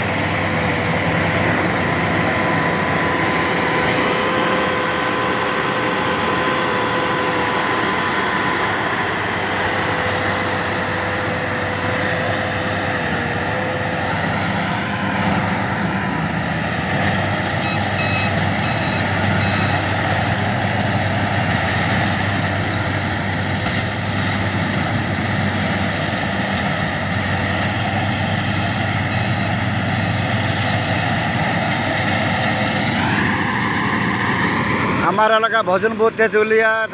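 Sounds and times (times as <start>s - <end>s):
steady whine: 0.0s - 35.6s
combine harvester running: 0.0s - 36.9s.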